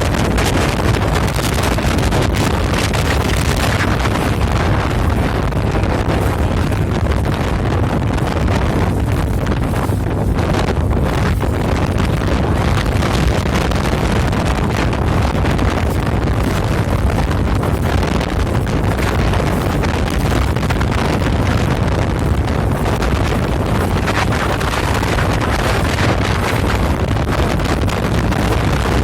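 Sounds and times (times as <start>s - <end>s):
heavy low rumble: 0.0s - 29.0s
wind buffeting microphone: 0.0s - 29.0s.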